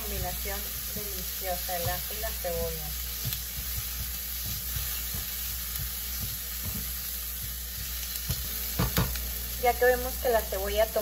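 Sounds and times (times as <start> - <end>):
spoon scraping and tapping pan: 0.0 - 9.2
onion sizzling in a frying pan: 0.0 - 11.0.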